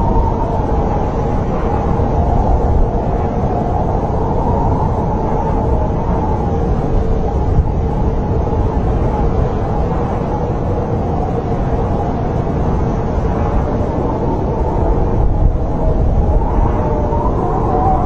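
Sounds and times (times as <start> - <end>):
snowstorm wind rushing: 0.0 - 18.0.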